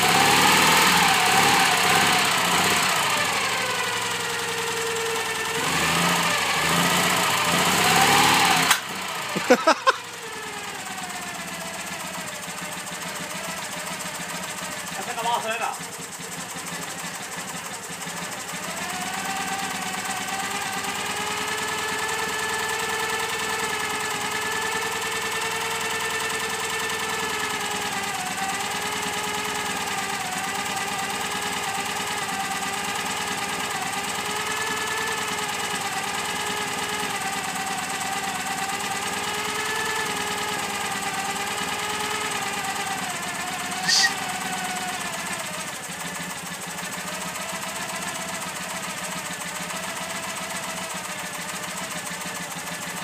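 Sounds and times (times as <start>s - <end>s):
air-cooled twin engine running: 0.0s - 53.0s.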